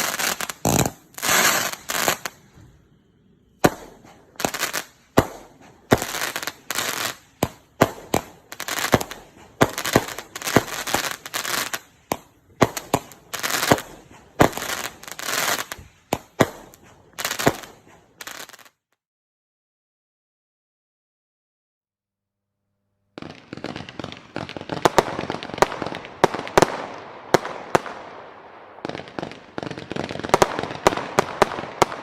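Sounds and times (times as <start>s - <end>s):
firework battery bangs and crackles: 0.0s - 2.9s, 3.5s - 18.7s, 23.2s - 32.0s.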